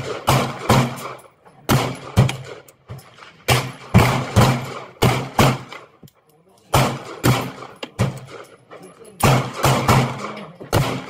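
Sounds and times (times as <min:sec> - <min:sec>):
pistol shots with echo: 0:00.0 - 0:06.0, 0:06.6 - 0:11.0.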